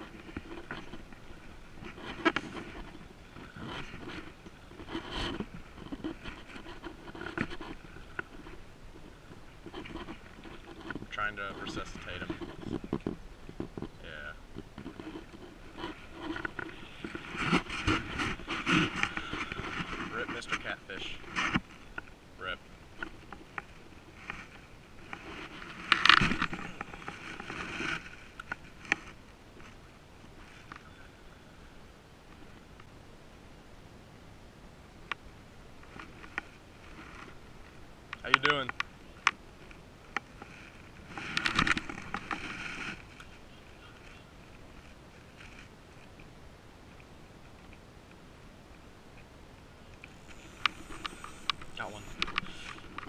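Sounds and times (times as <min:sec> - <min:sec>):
rustling noise: 0:00.0 - 0:31.1, 0:35.1 - 0:47.8, 0:49.8 - 0:53.0
reel rattling and line rushing: 0:00.0 - 0:31.4, 0:35.8 - 0:46.3, 0:49.9 - 0:53.0.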